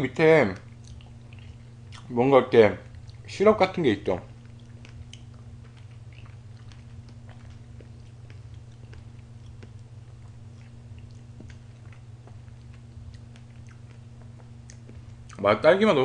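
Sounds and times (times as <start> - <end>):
steady low hum: 0.0 - 16.0
soft chewing: 0.4 - 15.5.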